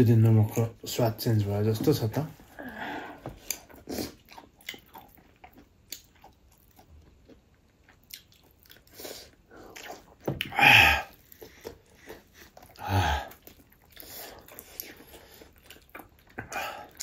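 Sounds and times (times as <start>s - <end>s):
person chewing food: 2.7s - 17.0s.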